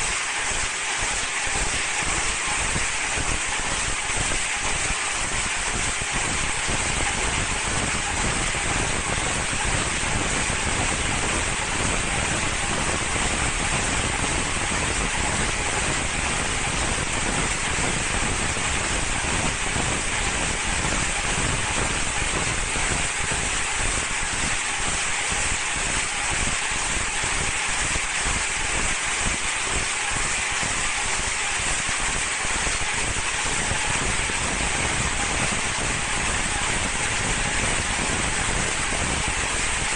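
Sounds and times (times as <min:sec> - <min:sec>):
film winding machine hiss: 0:00.0 - 0:39.9.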